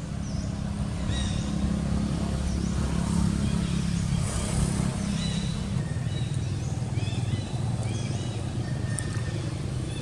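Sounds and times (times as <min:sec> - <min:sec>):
birds chirping: 0:00.0 - 0:10.0
low engine rumble: 0:00.0 - 0:10.0.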